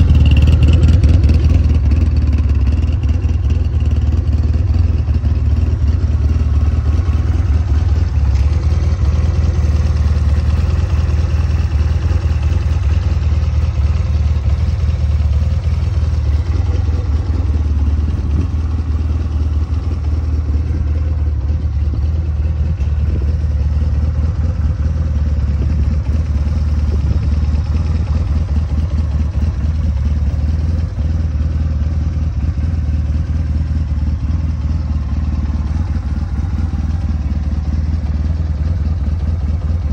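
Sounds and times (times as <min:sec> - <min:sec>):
quad engine idling: 0:00.0 - 0:39.9.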